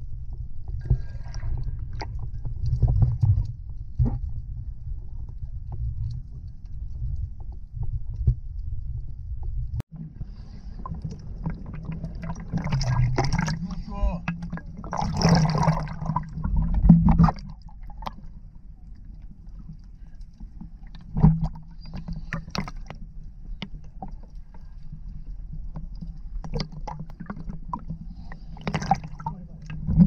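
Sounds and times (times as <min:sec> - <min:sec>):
sea water sloshing and splashing: 0:00.0 - 0:09.0, 0:09.9 - 0:30.0
muffled low underwater rumble: 0:00.0 - 0:30.0
water lapping and dripping: 0:00.2 - 0:30.0.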